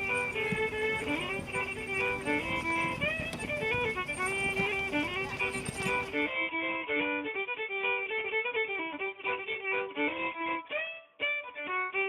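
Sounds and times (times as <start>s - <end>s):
lively fiddle tune: 0.0s - 12.0s.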